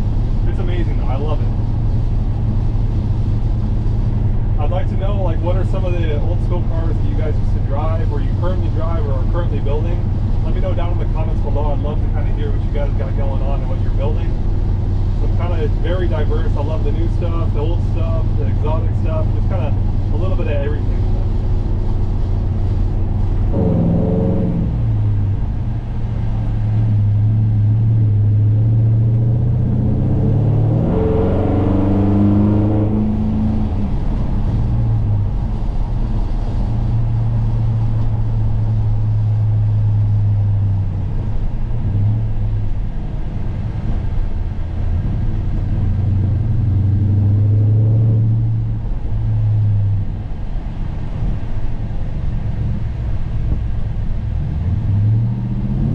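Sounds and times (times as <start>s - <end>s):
pickup engine droning while cruising: 0.0s - 55.9s.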